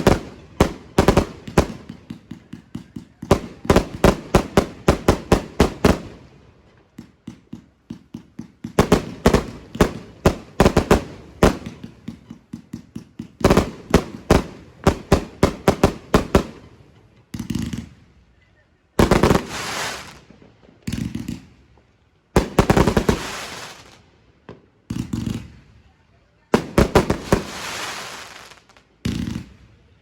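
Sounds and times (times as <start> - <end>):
fireworks rapid bangs: 0.0 - 18.0, 19.0 - 21.6, 22.4 - 25.6, 26.5 - 29.7.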